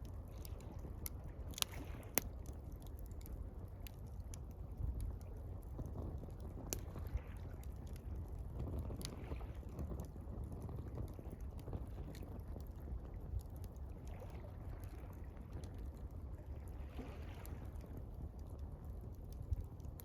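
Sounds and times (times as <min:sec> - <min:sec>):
campfire crackling and popping: 0:00.0 - 0:16.4, 0:17.4 - 0:20.0.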